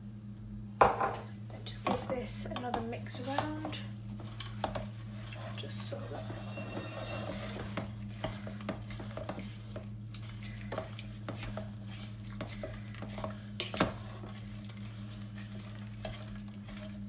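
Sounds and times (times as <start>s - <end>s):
low hum: 0.0s - 17.0s
wooden spoon stirring thick mix: 1.4s - 17.0s.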